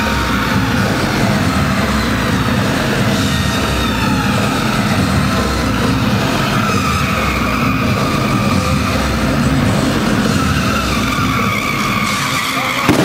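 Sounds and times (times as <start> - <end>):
car engines revving: 0.0 - 13.0
tyres squealing: 0.0 - 13.0.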